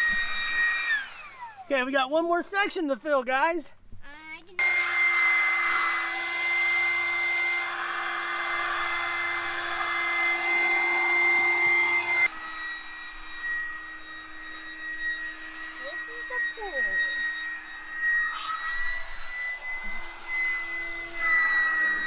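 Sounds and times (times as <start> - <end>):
electric air pump whining: 0.0 - 2.6, 4.6 - 22.0.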